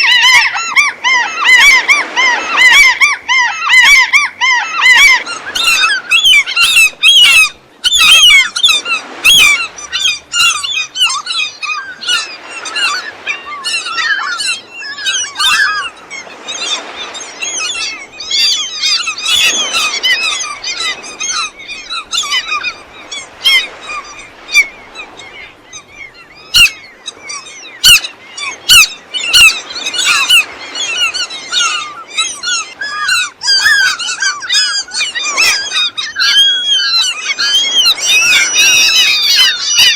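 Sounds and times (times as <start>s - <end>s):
gulls calling: 0.0s - 39.9s.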